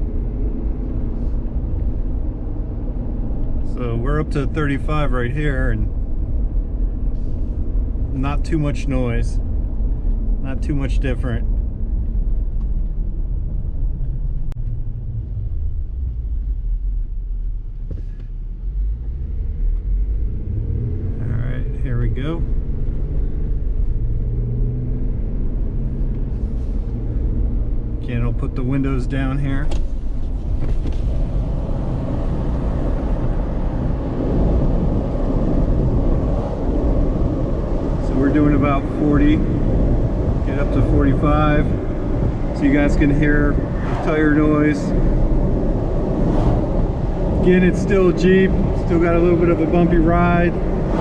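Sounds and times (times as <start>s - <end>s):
tire and road noise in cabin: 0.0s - 51.0s
wind: 0.0s - 51.0s.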